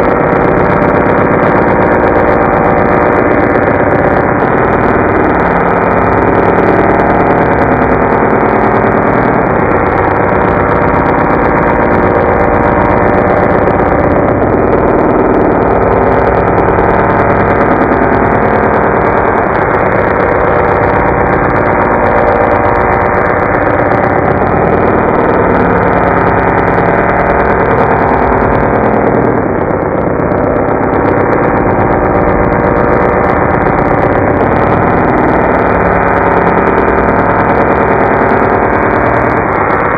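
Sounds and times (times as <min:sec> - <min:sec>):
slowed robotic vocoder voice drone: 0:00.0 - 0:39.9.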